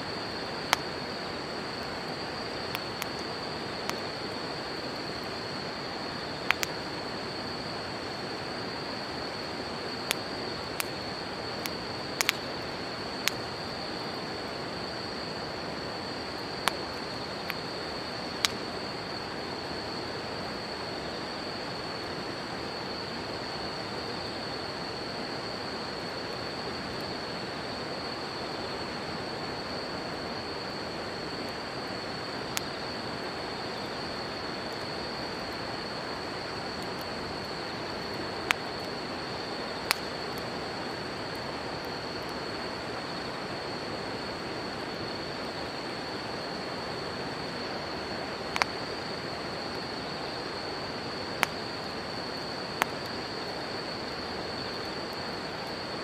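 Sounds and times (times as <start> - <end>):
campfire crackling: 0.0 - 56.0
insect trill: 0.0 - 56.0.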